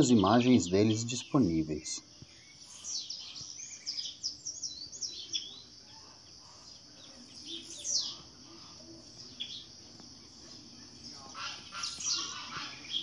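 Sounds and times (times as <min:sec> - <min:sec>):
birds chirping: 0:00.0 - 0:13.0
steady high hiss: 0:00.0 - 0:13.0.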